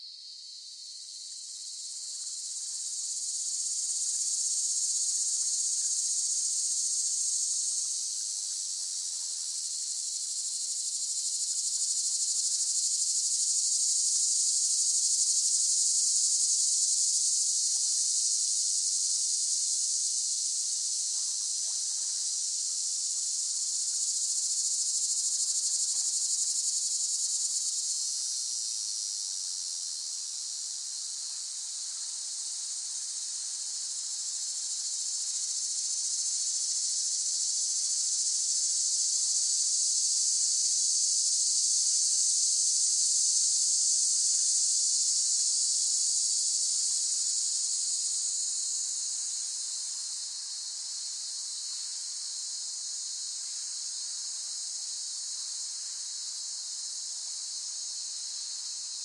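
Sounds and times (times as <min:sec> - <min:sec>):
cicadas singing: 0:09.6 - 0:30.4, 0:31.0 - 0:59.0.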